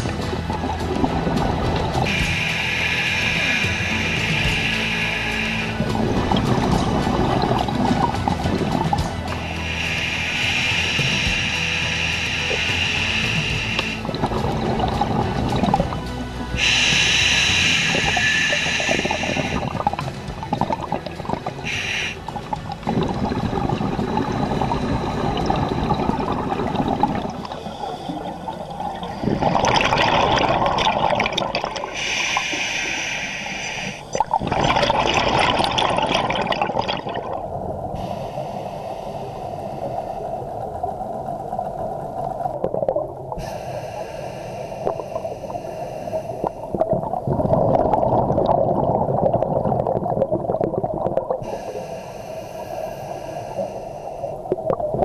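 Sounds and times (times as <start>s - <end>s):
gurgling exhaled bubbles: 0.0s - 38.5s, 39.1s - 44.0s, 44.8s - 52.0s, 52.6s - 55.0s
diver breathing through regulator: 0.0s - 41.1s, 42.5s - 54.9s.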